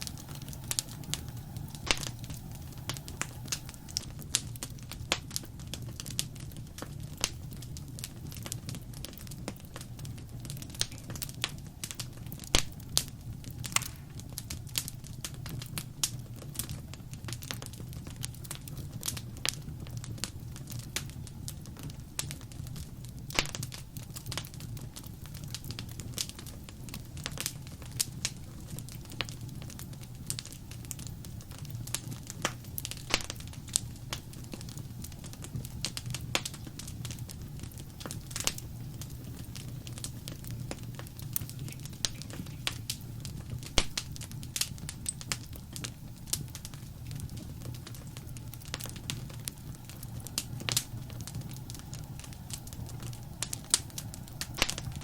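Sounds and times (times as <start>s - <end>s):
low rumble of burning fire: 0.0s - 55.0s
wood fire pops and snaps: 0.0s - 55.0s.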